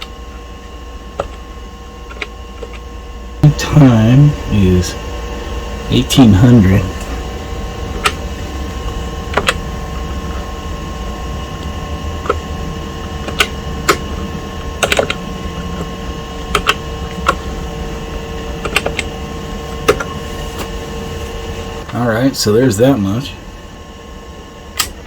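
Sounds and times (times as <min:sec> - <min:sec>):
electrical hum with faint whine: 0:00.0 - 0:25.0.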